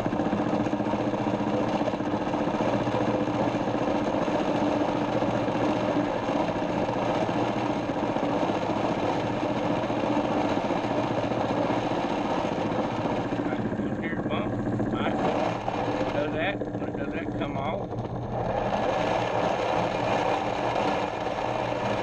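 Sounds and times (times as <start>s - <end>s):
lathe motor humming: 0.0s - 22.0s
lathe tool cutting plastic: 0.0s - 22.0s.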